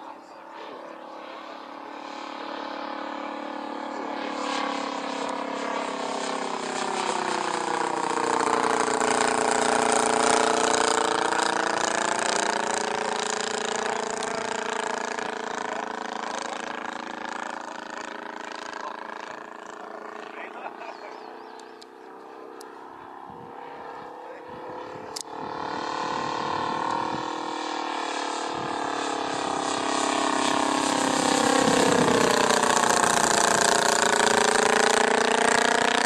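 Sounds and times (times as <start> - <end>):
model plane engine drone: 0.0 - 36.0.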